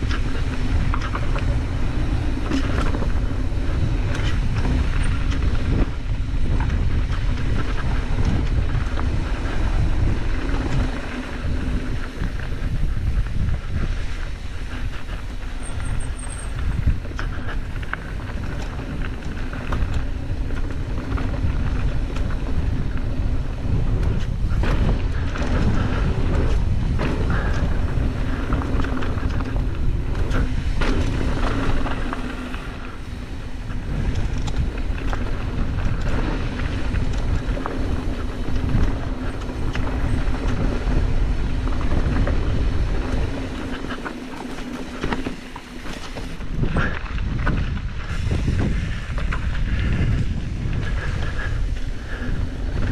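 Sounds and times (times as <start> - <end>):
bike rattling and knocking: 0.0 - 52.9
tyres rolling over dirt and stones: 0.0 - 52.9
wind rushing over microphone: 0.0 - 52.9.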